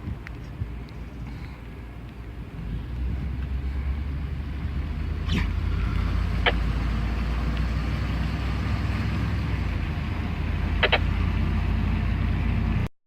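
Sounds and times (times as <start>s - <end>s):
car driving rumble: 0.0s - 12.9s.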